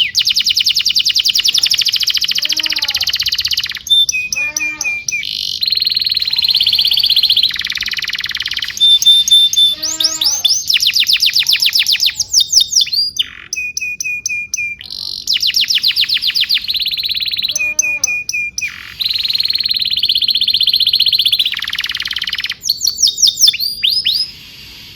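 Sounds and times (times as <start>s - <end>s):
canary singing: 0.0s - 24.5s.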